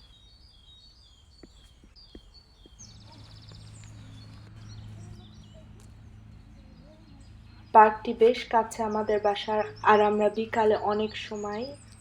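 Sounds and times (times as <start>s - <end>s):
songbirds chirping: 0.0s - 12.0s
distant engine hum: 1.0s - 12.0s.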